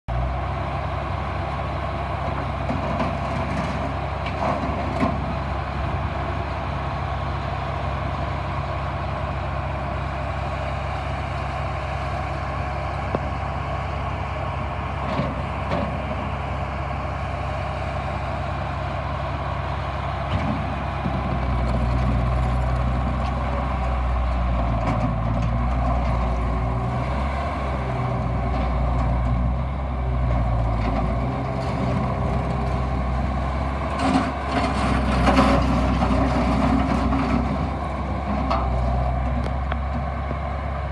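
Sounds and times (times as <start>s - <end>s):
track loader engine droning: 0.1s - 40.9s.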